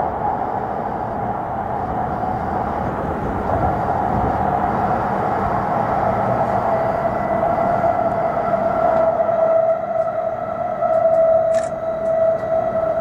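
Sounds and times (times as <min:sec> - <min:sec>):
constant whine: 0:00.0 - 0:13.0
train rumble inside cabin: 0:00.0 - 0:13.0.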